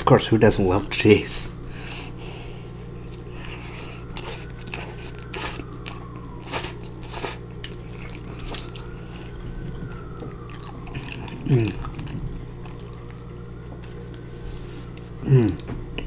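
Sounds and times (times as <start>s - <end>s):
steady low hum: 0.0s - 16.0s
chewing soft food: 1.5s - 16.0s.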